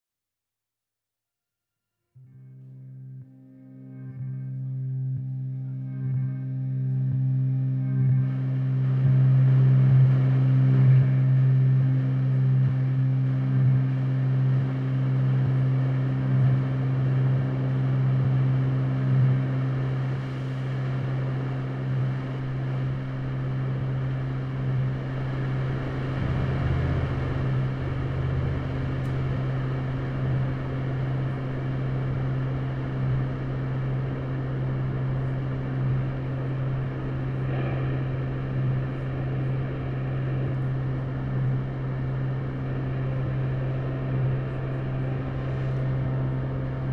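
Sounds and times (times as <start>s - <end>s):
electric guitar drone: 2.3s - 46.9s.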